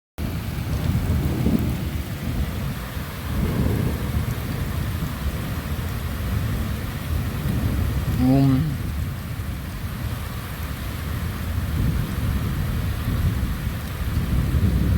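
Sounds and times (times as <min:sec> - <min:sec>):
steady rain: 0:00.2 - 0:14.9
thunder rumbling: 0:00.2 - 0:14.9.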